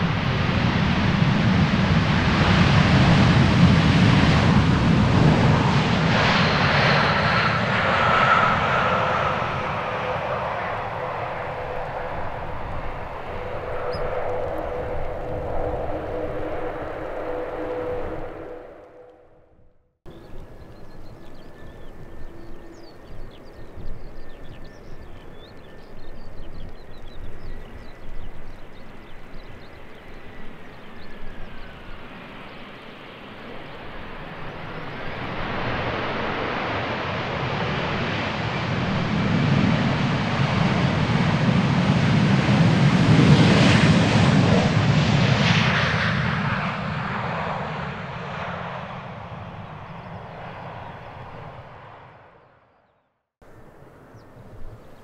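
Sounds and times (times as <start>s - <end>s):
jet airliner passing: 0.0s - 52.8s.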